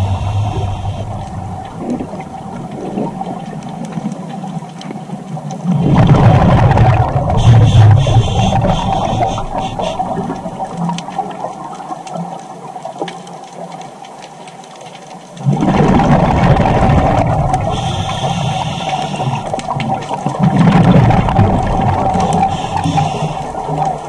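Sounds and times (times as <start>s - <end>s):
underwater exhaled air bubbles: 0.0s - 14.1s, 15.1s - 24.0s.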